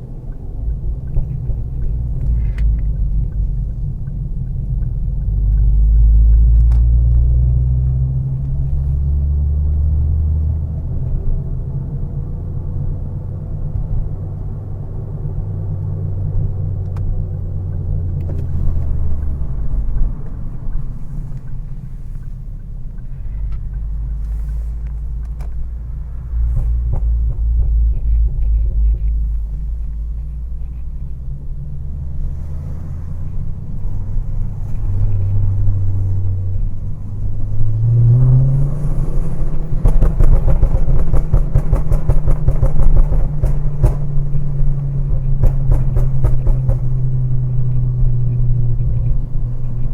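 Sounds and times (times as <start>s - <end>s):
car engine while driving: 0.0s - 49.9s.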